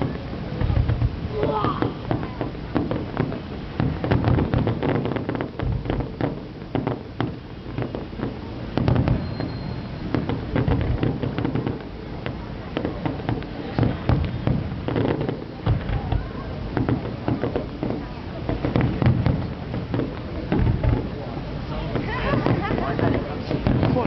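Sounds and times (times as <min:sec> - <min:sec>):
fireworks cracks and bangs: 0:00.0 - 0:24.0.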